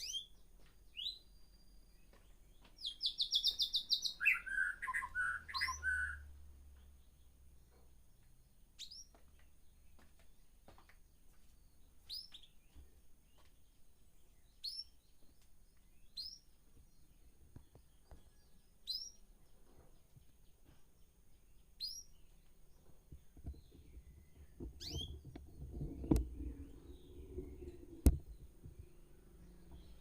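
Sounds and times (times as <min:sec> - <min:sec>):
caged birds chirping: 0:00.0 - 0:30.0.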